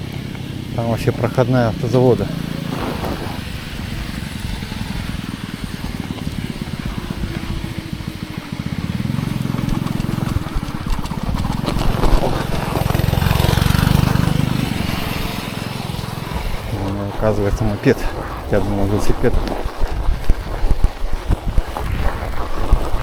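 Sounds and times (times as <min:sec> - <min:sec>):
moped engine passing: 0:00.0 - 0:23.0
wind rumble on microphone: 0:00.0 - 0:23.0.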